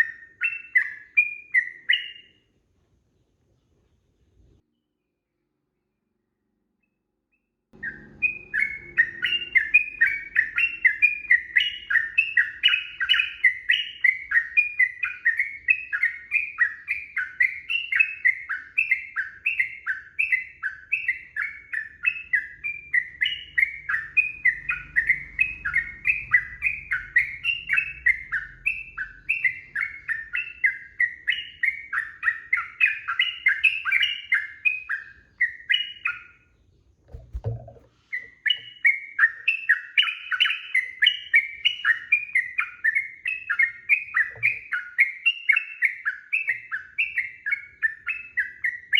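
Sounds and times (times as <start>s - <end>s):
bird chirping: 0.0s - 48.9s.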